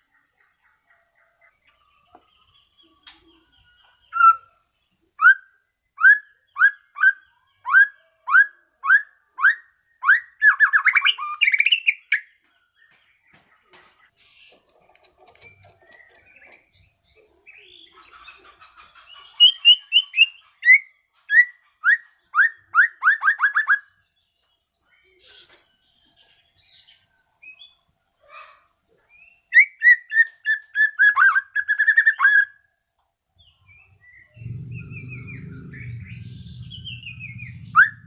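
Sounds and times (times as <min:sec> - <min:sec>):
bird singing whistled notes and trills: 0:00.0 - 0:18.2, 0:19.2 - 0:27.9, 0:29.0 - 0:38.0.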